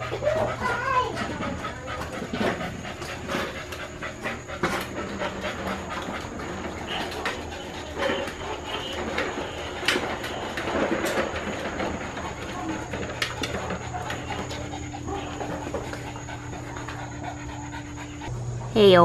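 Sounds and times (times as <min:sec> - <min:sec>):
plastic wheels rolling on concrete: 0:00.0 - 0:17.8.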